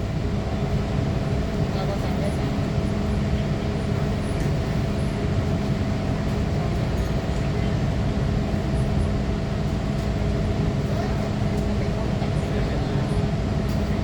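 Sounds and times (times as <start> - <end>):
train carriage rumble: 0.0 - 14.0.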